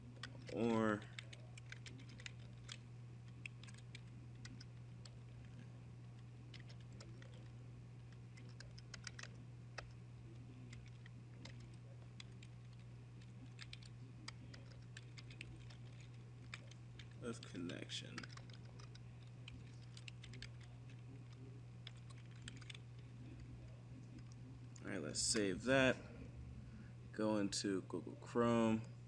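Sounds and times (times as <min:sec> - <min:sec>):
computer keyboard typing: 0:00.0 - 0:23.5
steady low hum: 0:00.0 - 0:29.0.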